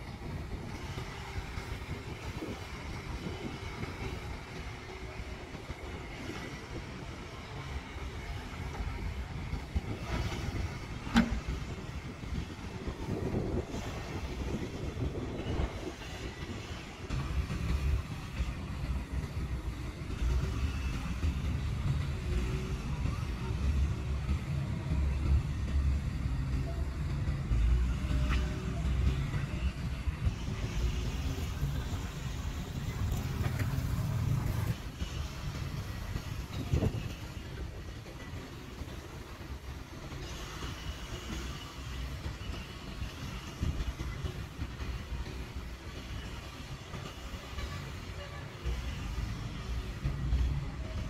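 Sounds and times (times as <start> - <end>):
diesel excavator engine rumbling: 0.0 - 51.0.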